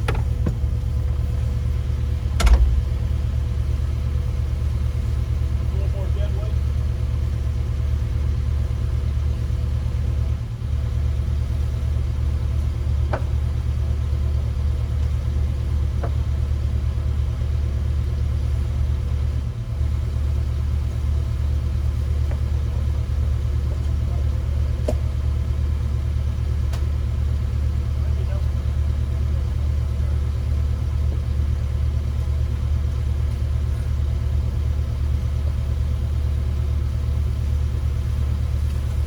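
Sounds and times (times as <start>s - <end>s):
diesel engine droning: 0.0s - 39.0s.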